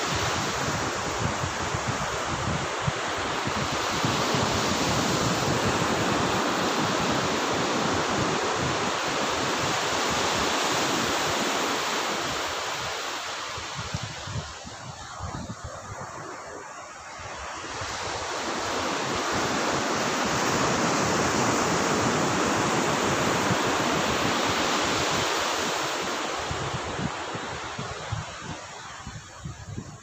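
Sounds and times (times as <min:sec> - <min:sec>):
wave breaking on beach: 0:00.0 - 0:29.2.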